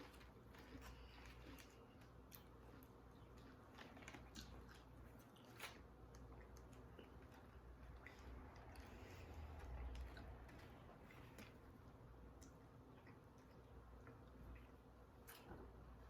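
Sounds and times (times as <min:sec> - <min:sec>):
people chewing and biting: 0:00.0 - 0:16.0.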